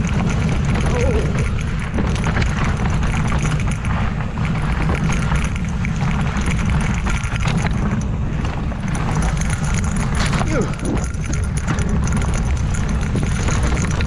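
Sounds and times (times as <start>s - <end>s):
bike clattering over rocks: 0.0s - 14.0s
tyres rolling over rough ground: 0.0s - 14.0s
wind buffeting microphone: 0.0s - 14.0s.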